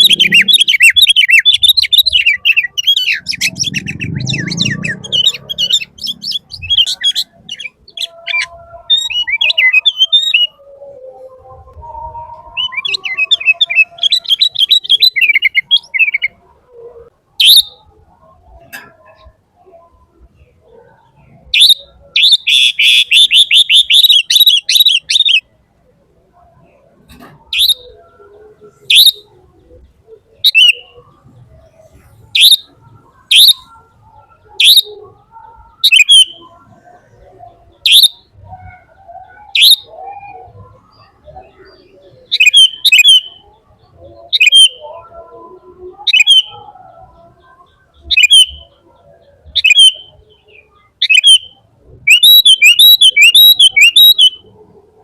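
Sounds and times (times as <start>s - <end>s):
bird chirping: 0.0s - 25.5s, 26.3s - 54.6s.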